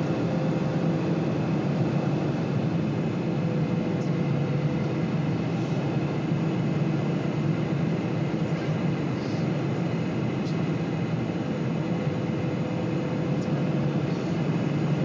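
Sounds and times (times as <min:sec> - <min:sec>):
jet engines in cabin: 0:00.0 - 0:15.0.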